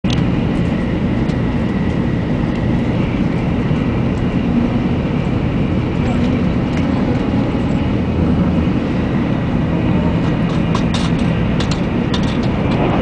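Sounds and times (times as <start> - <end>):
train rumbling: 0.1 - 13.0.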